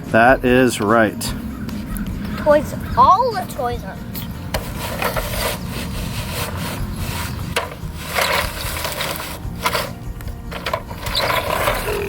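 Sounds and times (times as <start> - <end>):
toy trucks scraping through dirt: 1.9 - 12.0.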